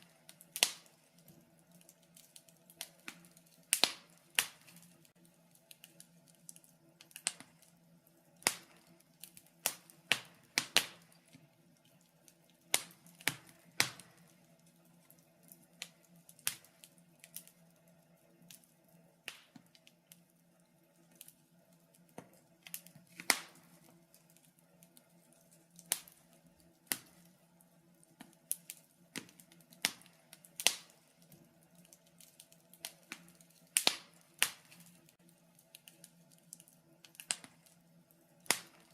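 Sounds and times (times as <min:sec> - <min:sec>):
faint low background hum: 0:00.0 - 0:38.9
wood fire crackling and popping: 0:00.0 - 0:38.9.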